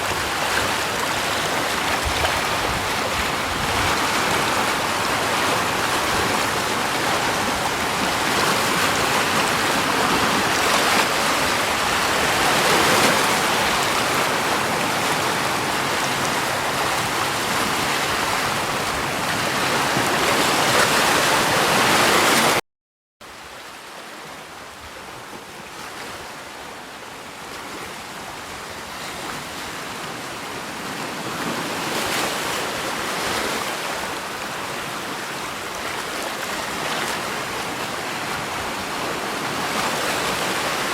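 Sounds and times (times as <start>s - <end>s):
rushing water: 0.0s - 22.6s, 23.2s - 40.9s.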